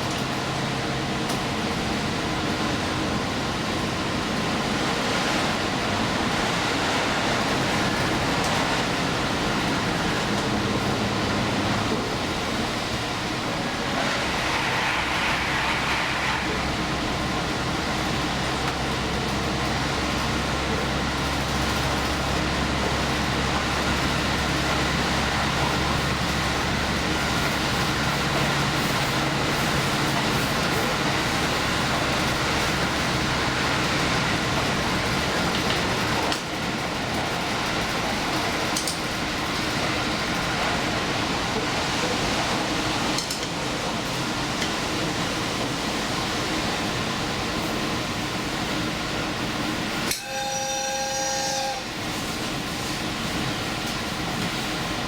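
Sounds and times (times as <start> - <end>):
low diesel engine drone: 0.0 - 55.0
train wheels rumbling on rails: 0.0 - 55.0.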